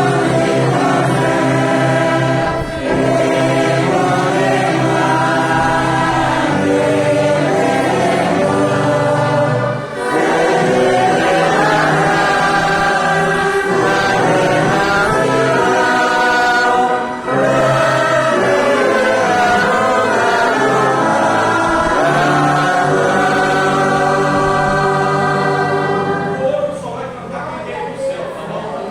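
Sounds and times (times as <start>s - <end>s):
congregation singing a hymn: 0.0s - 28.9s.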